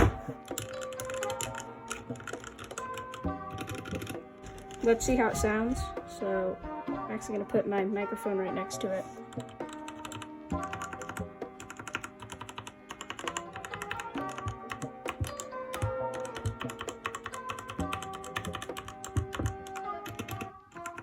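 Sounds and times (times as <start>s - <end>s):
background music: 0.0s - 21.0s
mechanical keyboard typing: 0.4s - 5.6s, 9.3s - 21.0s.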